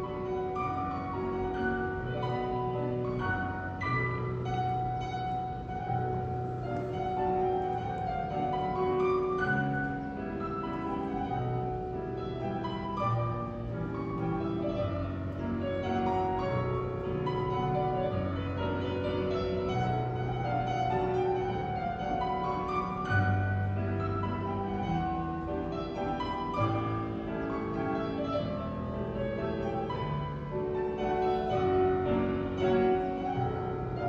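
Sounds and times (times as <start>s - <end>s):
classical piano music: 0.0s - 34.0s.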